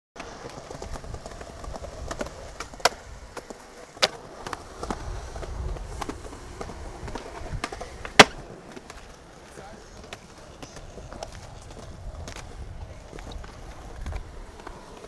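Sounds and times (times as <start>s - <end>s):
skateboard clacking on concrete: 0.2s - 15.0s
skateboard wheels rolling on concrete: 0.2s - 15.0s.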